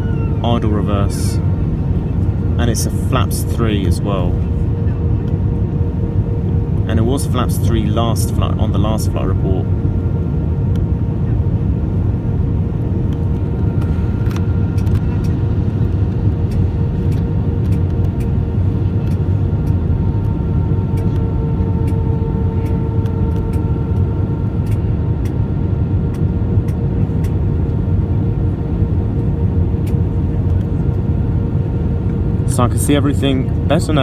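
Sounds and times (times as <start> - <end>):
airplane cabin roar: 0.0 - 34.0
steady hums: 0.0 - 34.0.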